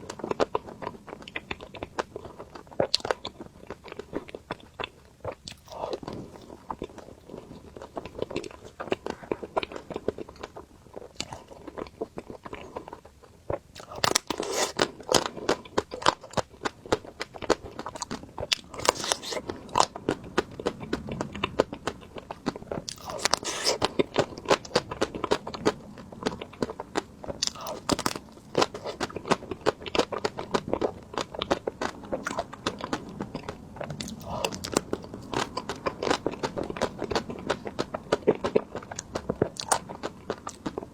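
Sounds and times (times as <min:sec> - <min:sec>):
crunching ice cream bites: 0:00.0 - 0:40.9.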